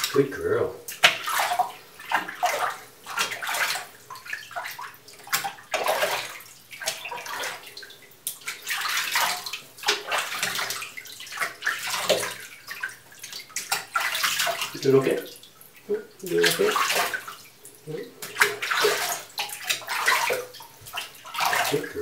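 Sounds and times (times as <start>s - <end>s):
bathwater sloshing and splashing: 0.0s - 22.0s.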